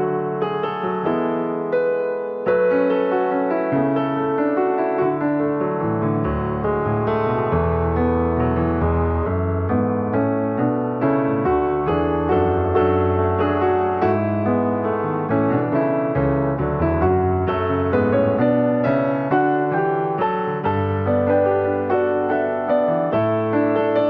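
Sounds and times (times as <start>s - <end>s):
gentle piano piece: 0.0s - 24.0s.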